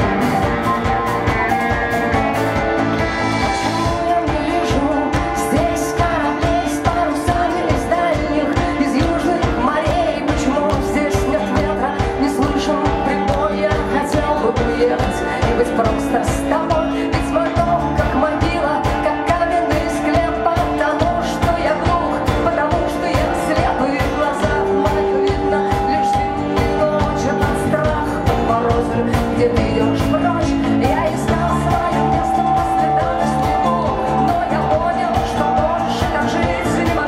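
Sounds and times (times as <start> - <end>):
rock band playing: 0.0 - 37.0
woman singing: 3.0 - 37.0.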